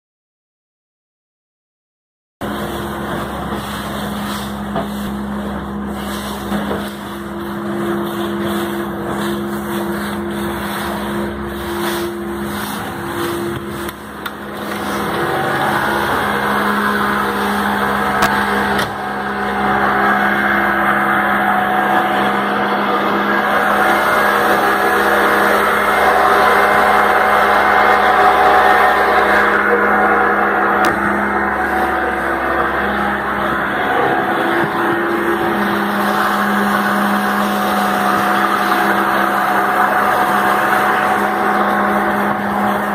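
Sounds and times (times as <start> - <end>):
outboard motor running: 2.4 - 42.9
wake rushing and splashing: 2.4 - 42.9.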